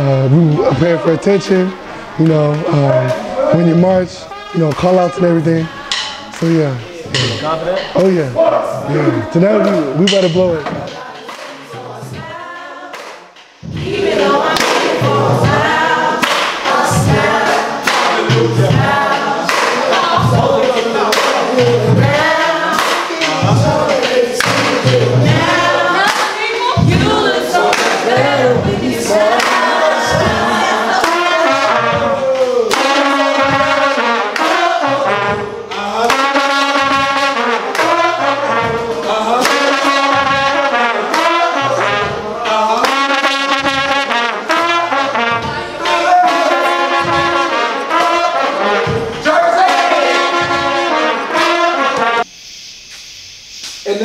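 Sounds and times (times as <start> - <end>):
trumpets playing a loud tune: 0.0 - 10.7, 12.9 - 54.0.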